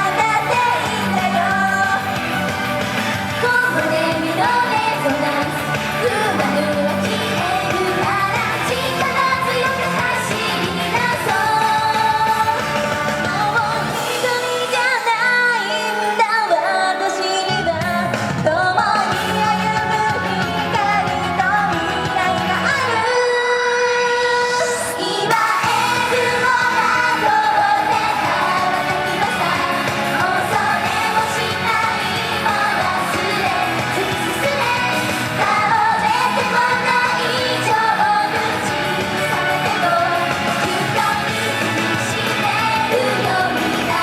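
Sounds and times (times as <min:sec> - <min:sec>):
pop song sung live: 0:00.0 - 0:44.0.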